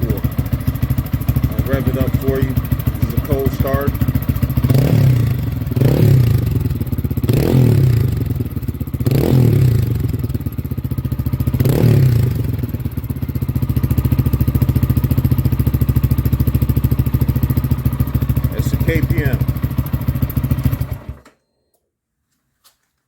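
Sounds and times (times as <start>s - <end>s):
motorcycle engine revving: 0.0s - 21.2s.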